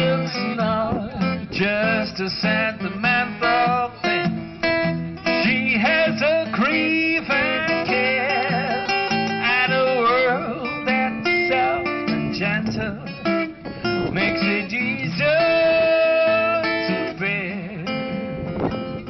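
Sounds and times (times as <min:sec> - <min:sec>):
man singing into a microphone: 0:00.0 - 0:04.3, 0:05.2 - 0:18.4
acoustic guitar strumming: 0:00.0 - 0:19.0.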